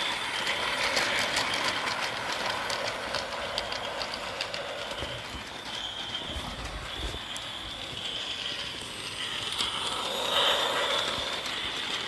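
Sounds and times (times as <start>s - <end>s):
toy train whirring rattle: 0.0s - 12.0s
wheels clicking on track: 0.0s - 12.0s.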